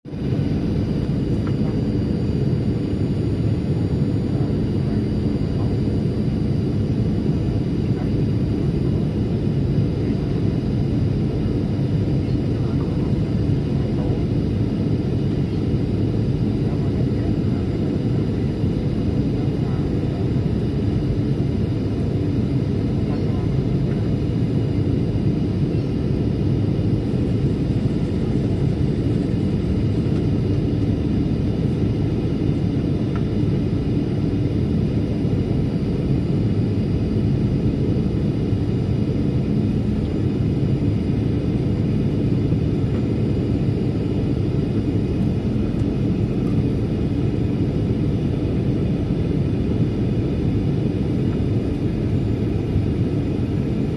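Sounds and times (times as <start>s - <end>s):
airplane cabin engine rumble: 0.1s - 53.9s.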